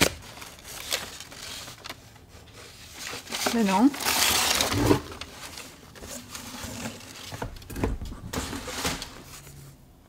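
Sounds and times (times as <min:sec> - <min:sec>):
packaging rustling and crinkling: 0:00.0 - 0:09.8.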